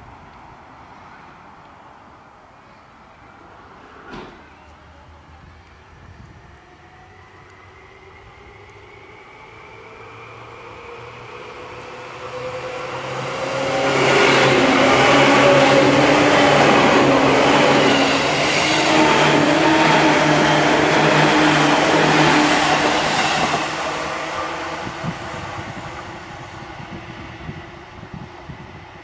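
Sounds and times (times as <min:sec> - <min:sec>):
wheels rumbling on rail: 0:03.6 - 0:29.0.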